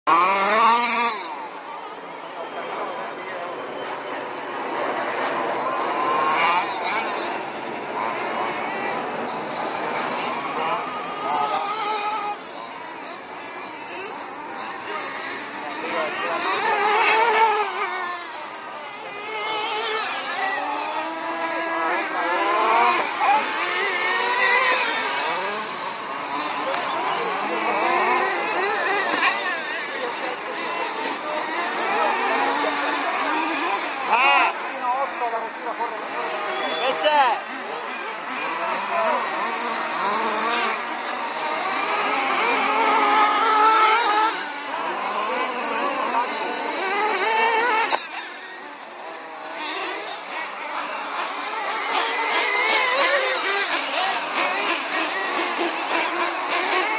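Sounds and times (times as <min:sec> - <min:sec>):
off-road vehicle engines revving: 0:00.0 - 0:56.9.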